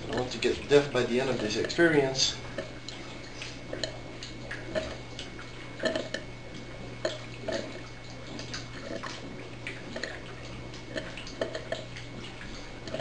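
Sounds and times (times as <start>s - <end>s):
gas bubbling through water: 0.0s - 13.0s
small pops and drips: 0.0s - 13.0s
steady low hum: 0.0s - 13.0s.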